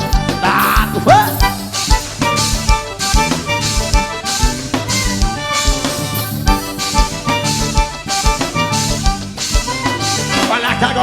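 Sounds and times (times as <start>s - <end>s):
drum kit beat: 0.0s - 11.0s
sustained melodic lead: 0.0s - 11.0s.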